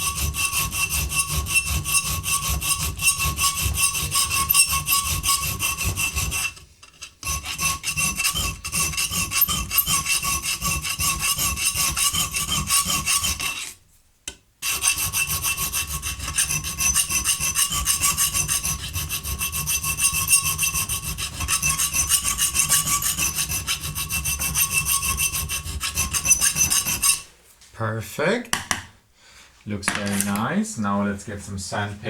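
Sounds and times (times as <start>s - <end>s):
file rasping back and forth: 0.0s - 13.8s, 14.6s - 27.3s.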